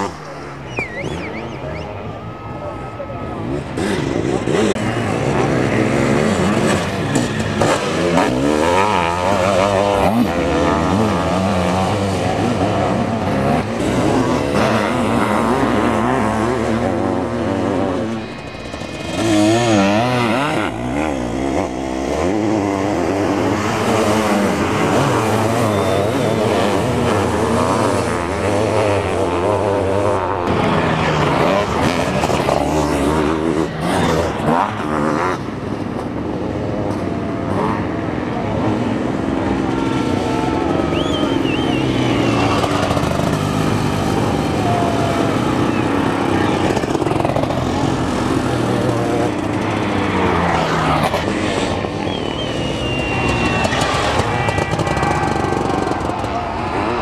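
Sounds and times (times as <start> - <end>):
motorcycle engines racing: 0.0 - 57.0
motorcycle passing close: 0.0 - 57.0.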